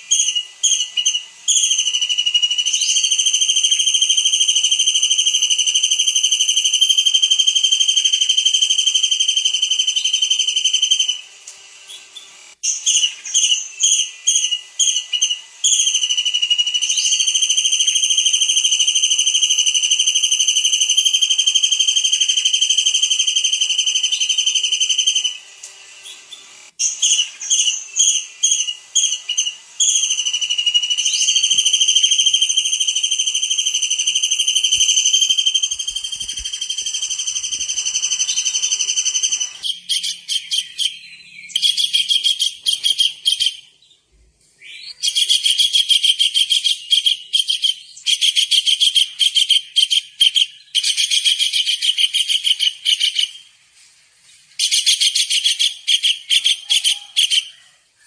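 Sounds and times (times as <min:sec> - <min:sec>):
bird trill: 0:00.0 - 0:11.3, 0:11.9 - 0:25.4, 0:26.0 - 0:43.8, 0:44.6 - 0:53.5, 0:54.6 - 0:57.8
kingfisher whistled song: 0:00.0 - 0:11.3, 0:11.9 - 0:25.4, 0:26.8 - 0:43.7, 0:44.6 - 0:53.4.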